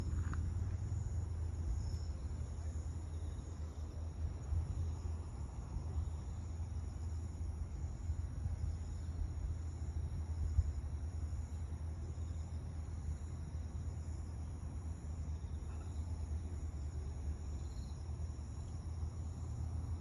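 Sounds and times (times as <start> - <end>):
crickets trilling: 0.0 - 20.0
low steady rumble: 0.0 - 20.0.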